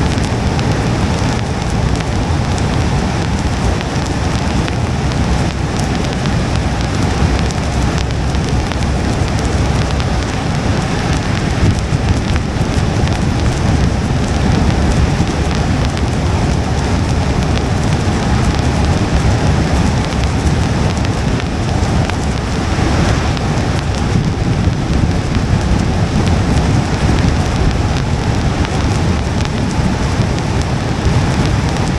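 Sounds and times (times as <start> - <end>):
rain pattering on car: 0.0 - 31.9
tyres rumbling on wet road: 0.0 - 31.9.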